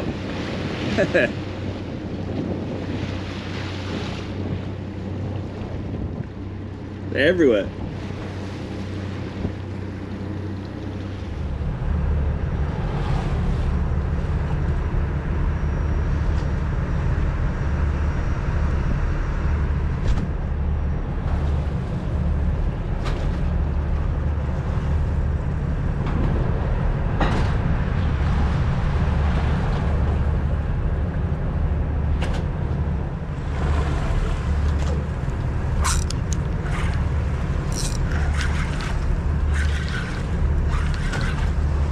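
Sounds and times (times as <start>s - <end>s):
boat engine drone: 0.0s - 41.9s
water rushing: 0.0s - 41.9s
wind: 0.0s - 41.9s.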